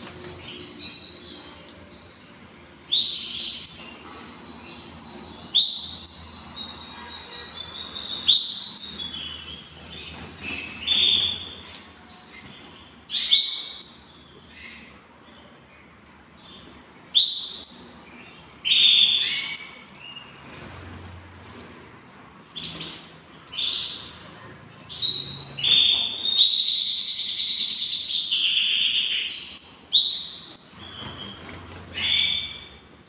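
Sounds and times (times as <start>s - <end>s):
canaries chirping and twittering: 0.0s - 33.0s.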